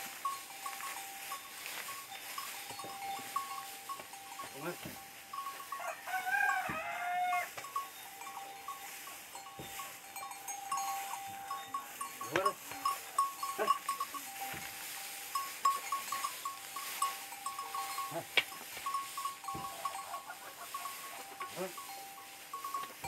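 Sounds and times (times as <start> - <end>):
animal bells jingling: 0.0 - 23.0.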